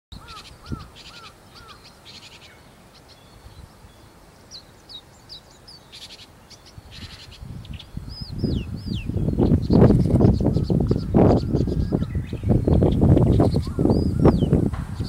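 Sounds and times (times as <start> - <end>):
bird singing varied song: 0.1 - 15.0.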